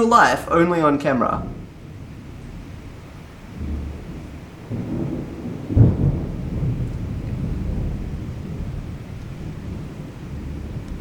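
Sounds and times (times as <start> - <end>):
loud thunder clap: 0.0 - 11.0
thunder rumbling: 0.0 - 11.0.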